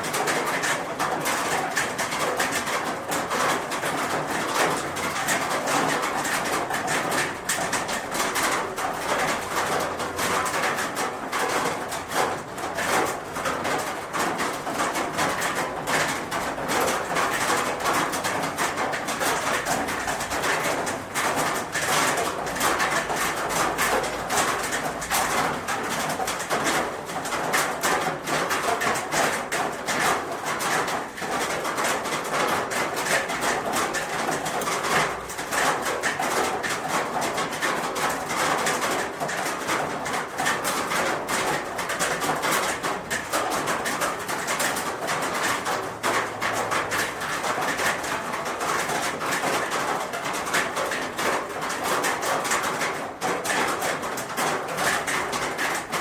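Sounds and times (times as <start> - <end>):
rain pattering on a roof: 0.0 - 56.0.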